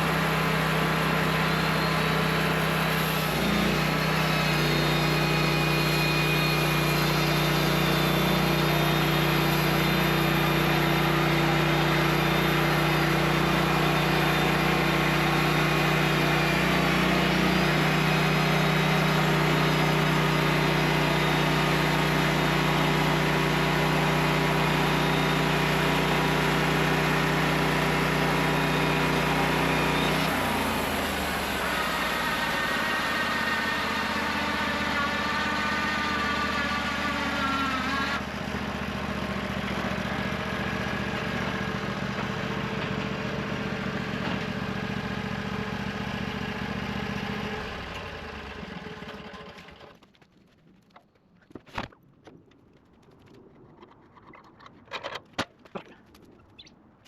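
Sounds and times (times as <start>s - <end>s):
sawmill engine running: 0.0s - 50.0s.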